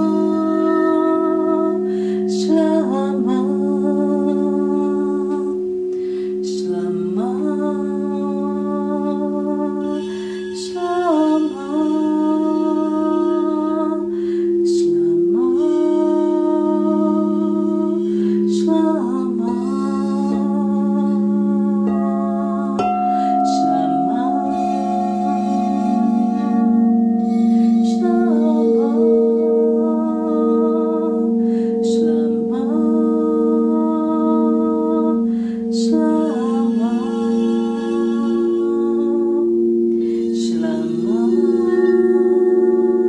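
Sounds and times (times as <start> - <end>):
crystal singing bowls ringing: 0.0 - 43.0
woman singing wordless tones: 0.0 - 43.0.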